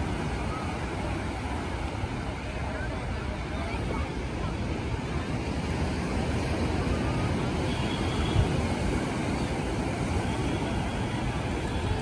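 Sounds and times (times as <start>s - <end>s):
breaking surf: 0.0s - 12.0s.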